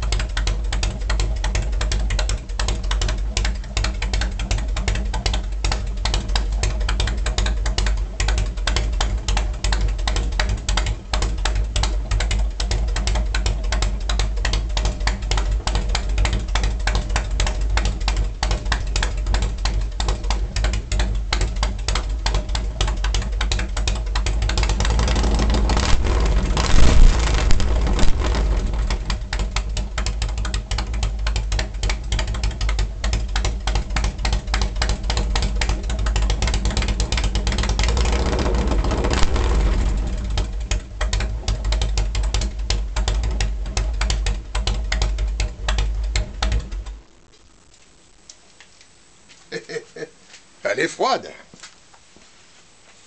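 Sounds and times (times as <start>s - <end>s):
motorcycle engine revving: 0.0s - 47.8s
motorcycle engine idling lumpy: 0.0s - 48.0s.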